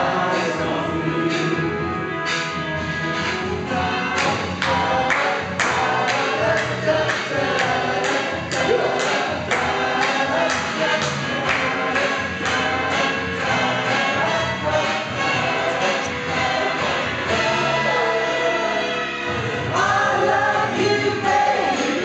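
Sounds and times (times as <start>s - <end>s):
congregation singing: 0.0s - 1.8s, 3.6s - 22.0s
instrumental accompaniment with beat: 0.0s - 22.0s.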